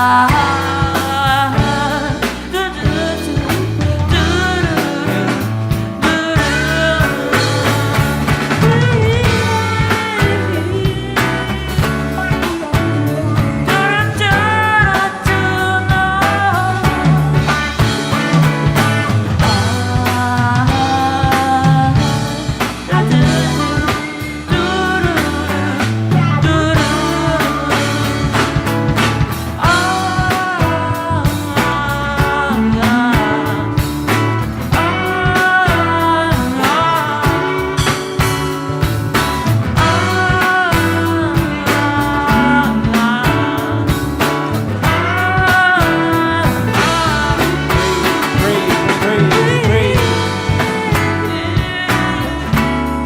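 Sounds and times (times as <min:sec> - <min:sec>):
bass: 0:00.0 - 0:53.0
drums beating: 0:00.0 - 0:53.0
live band playing: 0:00.0 - 0:53.0
sustained melodic lead: 0:00.0 - 0:53.0.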